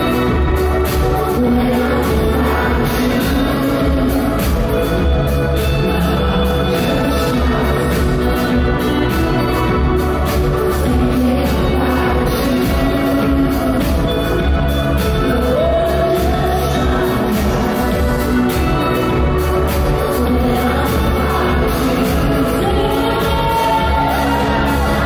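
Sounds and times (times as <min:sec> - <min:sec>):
drums: 0:00.0 - 0:25.0
keyboards: 0:00.0 - 0:25.0
woman singing: 0:00.0 - 0:25.0.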